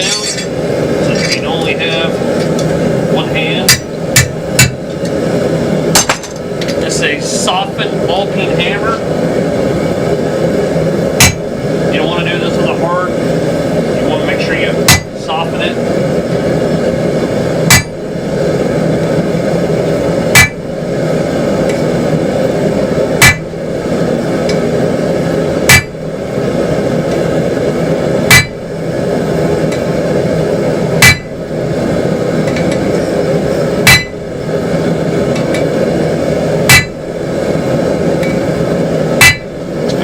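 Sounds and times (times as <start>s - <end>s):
hammer striking hot steel: 0.0s - 6.9s, 10.6s - 13.7s, 14.3s - 40.0s
steady running noise: 0.0s - 40.0s.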